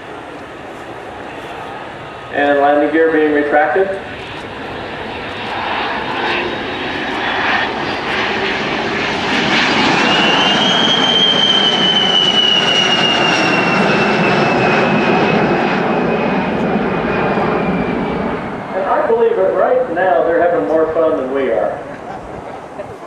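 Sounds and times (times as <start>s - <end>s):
high turbine whine: 0.0s - 23.0s
jet engines passing overhead: 0.0s - 23.0s.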